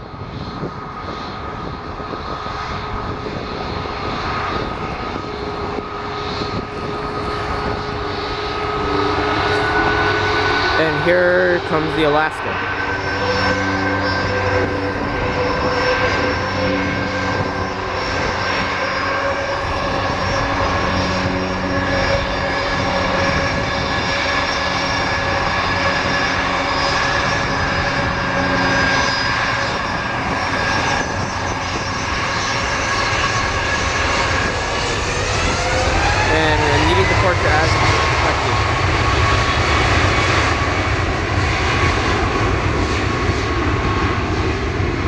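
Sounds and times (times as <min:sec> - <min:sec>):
jet engines roaring: 0:00.0 - 0:45.0.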